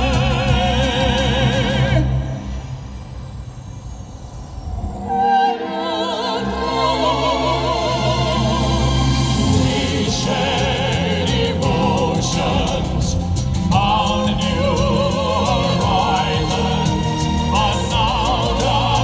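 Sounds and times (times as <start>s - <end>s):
operatic vocal quartet singing: 0.0s - 2.5s, 5.0s - 19.0s.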